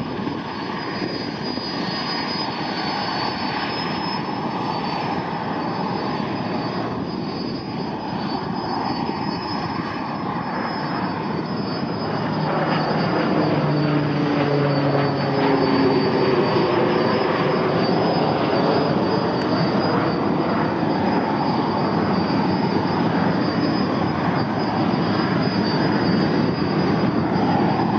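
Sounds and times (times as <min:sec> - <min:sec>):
helicopter engine and rotor noise: 0:00.0 - 0:27.9
high turbine whine: 0:00.0 - 0:27.9.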